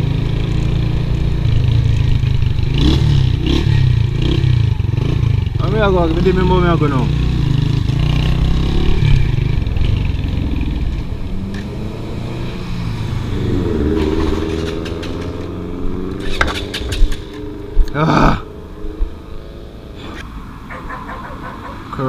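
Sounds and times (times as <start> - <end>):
motorcycle engine pulling away: 0.0 - 17.8.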